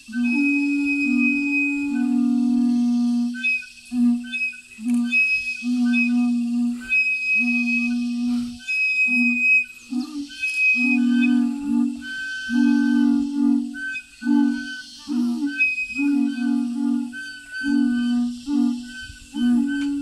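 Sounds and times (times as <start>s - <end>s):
flute-like wind instrument melody: 0.0s - 20.0s.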